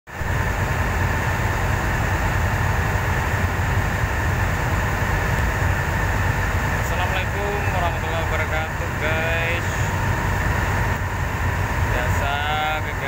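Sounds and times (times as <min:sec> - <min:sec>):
boat engine droning: 0:00.1 - 0:13.0
faint steady whine: 0:00.1 - 0:13.0.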